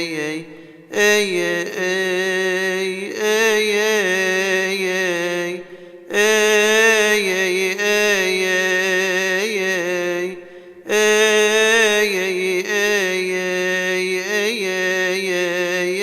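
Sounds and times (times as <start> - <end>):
man chanting a hymn: 0.0 - 16.0.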